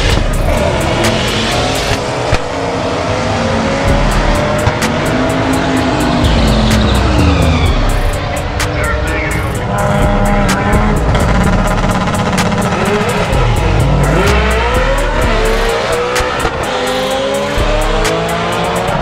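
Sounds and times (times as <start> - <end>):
music with ticking beat: 0.0 - 2.6, 3.8 - 19.0
car engine at high revs: 0.0 - 19.0.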